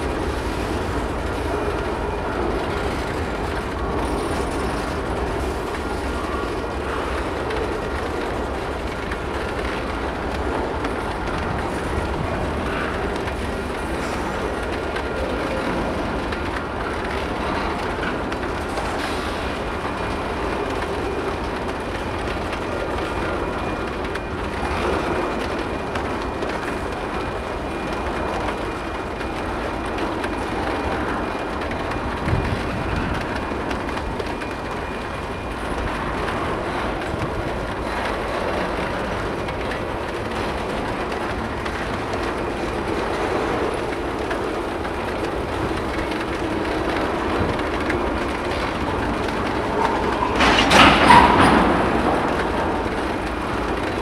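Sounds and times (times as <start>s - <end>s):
freight train rolling past: 0.0s - 54.0s
wheels clacking over rail joints: 0.0s - 54.0s.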